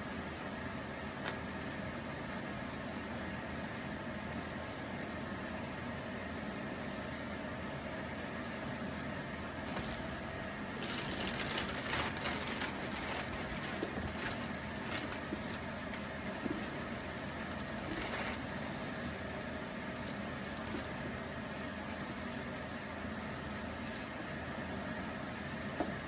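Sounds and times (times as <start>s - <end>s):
steady background hum: 0.0s - 26.0s
crackly rustling and handling: 1.2s - 26.0s.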